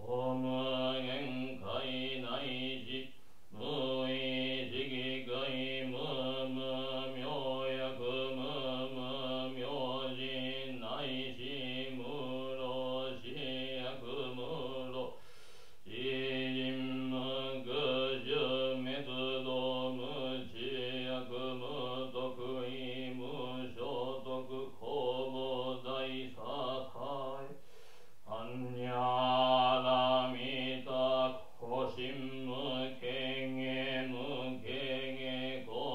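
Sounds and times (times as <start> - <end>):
man chanting in monotone: 0.0 - 15.2, 15.9 - 27.6, 28.2 - 35.9.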